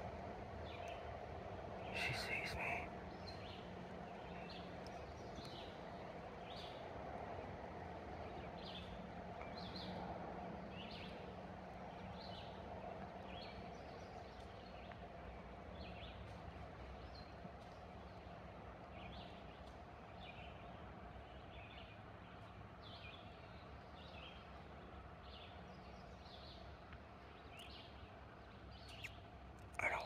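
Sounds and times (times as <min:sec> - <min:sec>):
faint background hum: 0:00.0 - 0:30.0.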